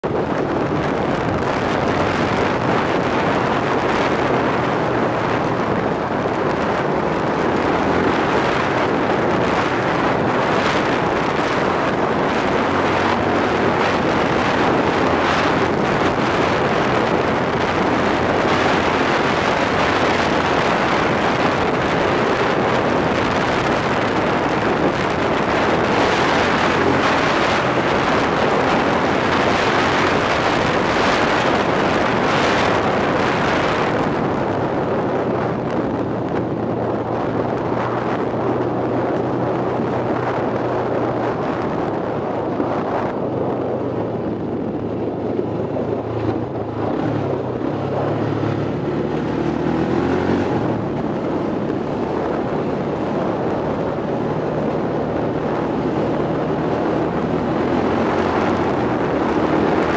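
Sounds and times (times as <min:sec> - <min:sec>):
quad engine running: 0:00.0 - 0:59.9
wind rushing over microphone: 0:00.0 - 0:59.9.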